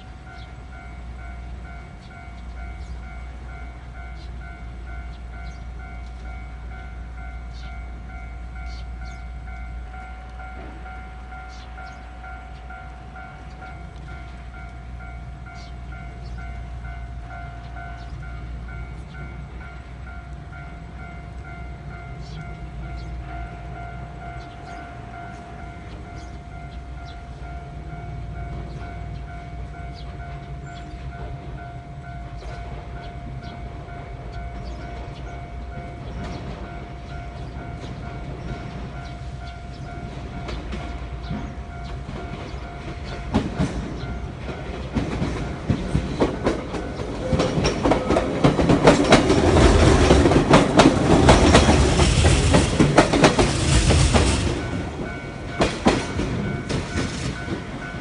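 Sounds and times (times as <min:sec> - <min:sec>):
train wheels clacking: 0:00.0 - 0:58.0.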